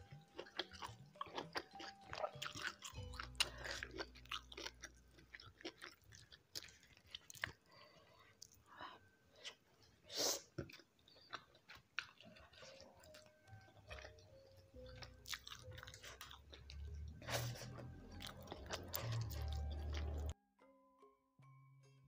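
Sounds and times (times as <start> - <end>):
wet chewing and mouth smacks: 0.0 - 8.7, 9.4 - 20.4.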